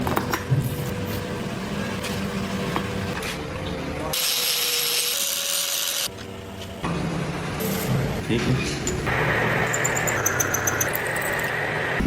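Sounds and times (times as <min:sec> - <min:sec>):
metalworking machinery humming: 0:00.0 - 0:12.0.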